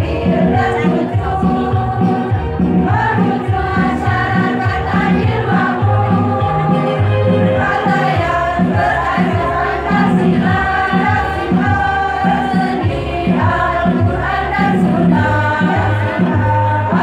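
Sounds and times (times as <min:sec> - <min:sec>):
low pulsing beat: 0:00.0 - 0:16.7
women's choir singing: 0:00.0 - 0:17.0.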